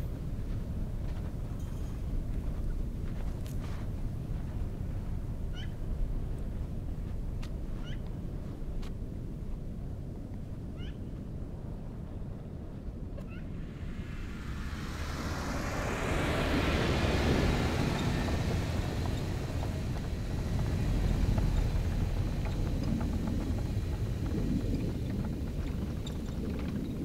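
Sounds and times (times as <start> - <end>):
car engine rumble: 0.0 - 27.0.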